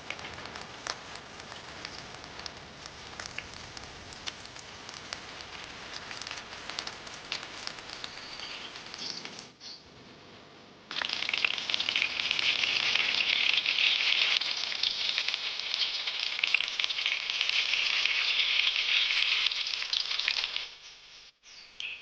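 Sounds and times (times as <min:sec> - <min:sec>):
battered petals sizzling in oil: 0:00.0 - 0:10.2, 0:10.8 - 0:22.0.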